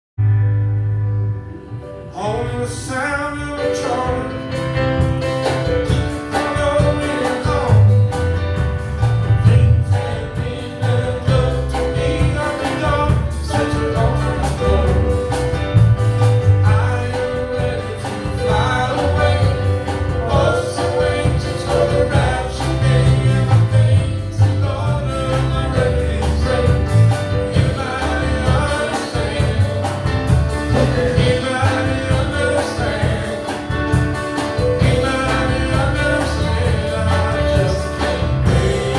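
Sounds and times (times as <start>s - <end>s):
gospel singing with band: 2.0s - 38.9s
pulsing bass line: 7.5s - 38.9s.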